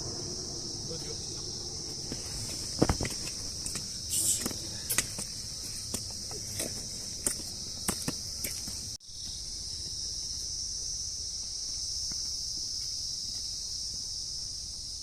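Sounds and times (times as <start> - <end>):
insects droning: 0.0 - 15.0
footsteps on a trail: 1.8 - 14.9.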